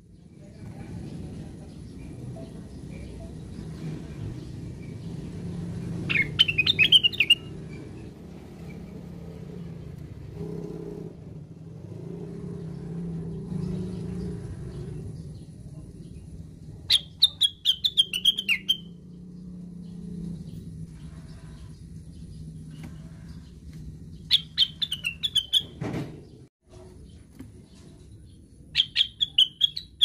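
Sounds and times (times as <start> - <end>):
bird chirping: 0.0 - 9.9, 12.2 - 26.4, 27.0 - 30.0.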